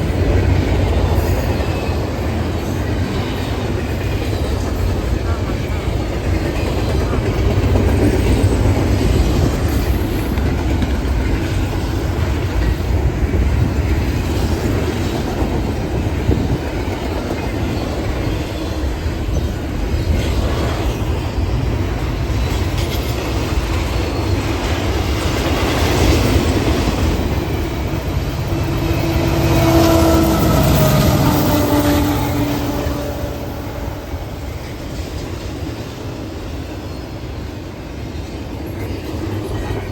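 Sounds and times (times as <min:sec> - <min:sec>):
train cars rumbling and clattering: 0:00.0 - 0:39.9.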